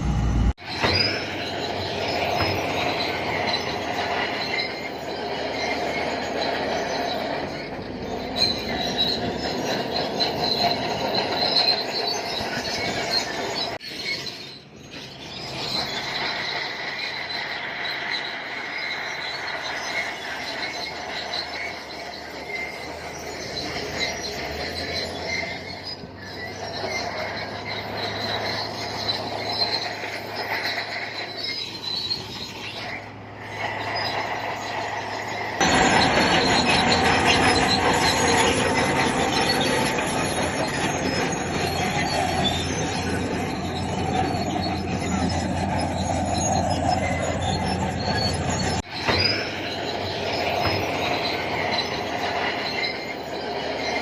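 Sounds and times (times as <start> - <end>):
bulldozer engine: 0.0 - 54.0
steel tracks squealing and clattering: 0.0 - 54.0.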